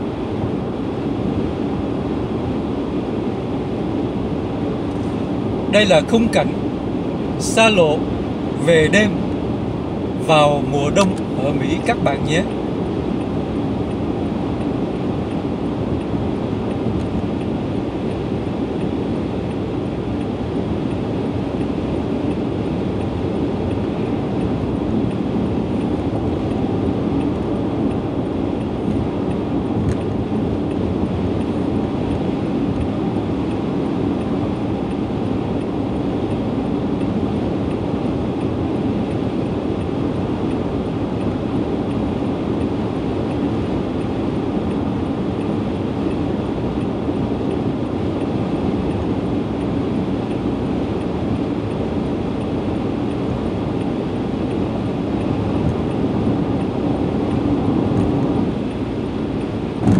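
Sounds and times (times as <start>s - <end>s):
road and tyre noise: 0.0s - 59.9s.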